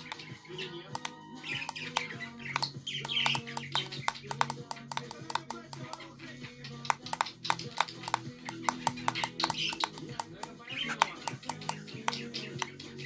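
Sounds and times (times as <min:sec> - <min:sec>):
background music: 0:00.0 - 0:13.0
beak tapping on mirror: 0:00.0 - 0:13.0
bird chirps: 0:00.0 - 0:13.0.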